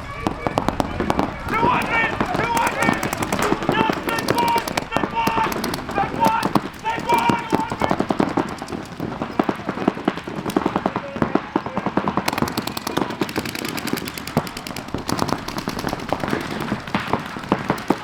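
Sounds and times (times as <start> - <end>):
paintball guns firing: 0.0 - 18.0.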